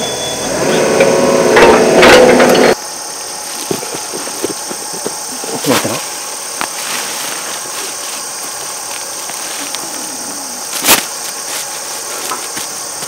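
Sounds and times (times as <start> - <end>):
engine running steadily: 0.0 - 13.0
high hiss: 2.5 - 13.0.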